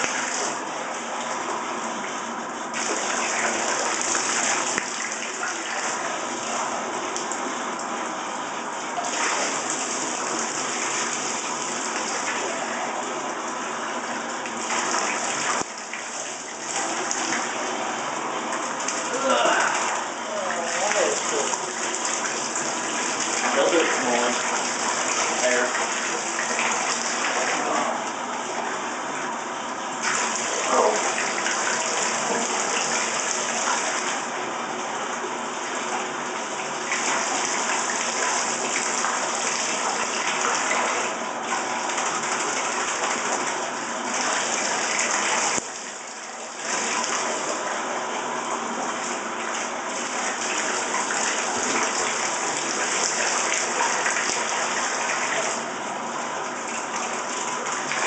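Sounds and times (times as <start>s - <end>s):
bath tap running into tub: 0.0s - 58.0s.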